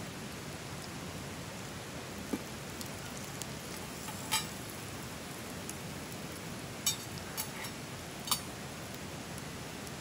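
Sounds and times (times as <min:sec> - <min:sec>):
food sizzling in skillet: 0:00.0 - 0:10.0.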